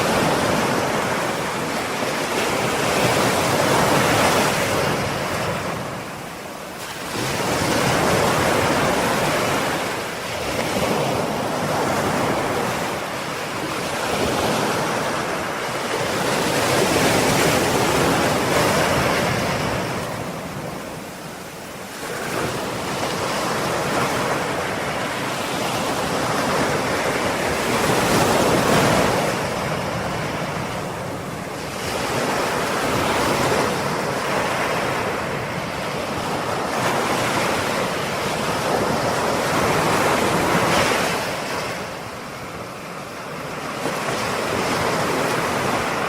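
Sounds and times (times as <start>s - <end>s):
ocean waves breaking: 0.0s - 46.0s.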